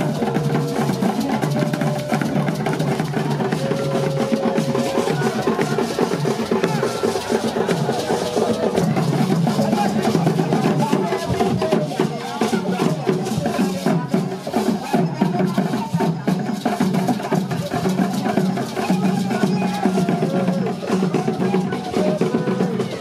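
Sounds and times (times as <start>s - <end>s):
drum and percussion rhythm: 0.0s - 23.0s.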